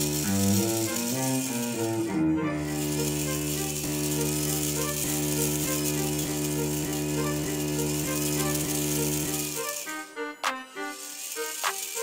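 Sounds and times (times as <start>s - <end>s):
small motor whining: 0.0s - 12.0s.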